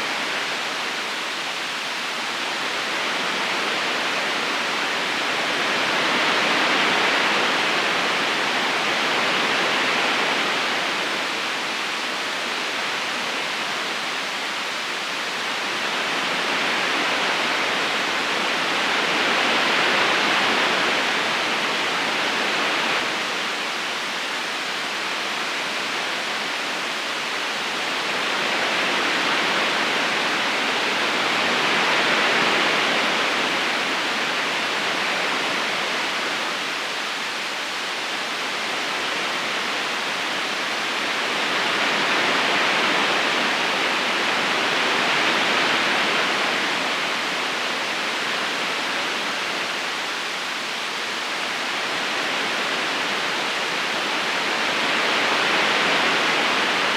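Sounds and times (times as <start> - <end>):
river current rushing: 0.0 - 56.9.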